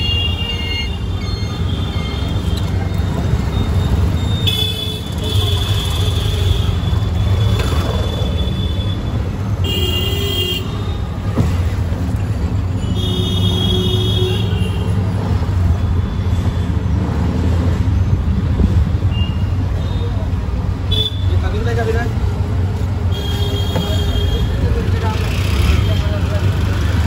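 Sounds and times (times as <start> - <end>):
engine and road rumble: 0.0 - 27.0.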